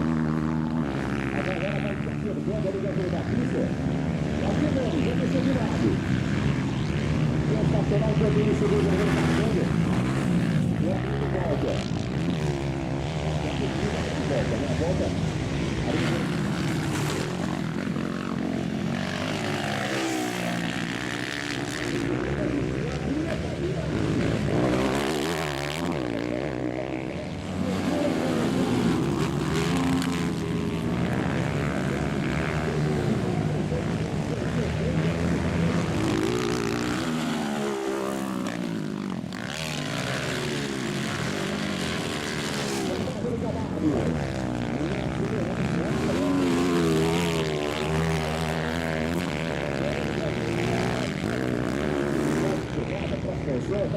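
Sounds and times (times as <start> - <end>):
race motorcycle engines: 0.0 - 53.9.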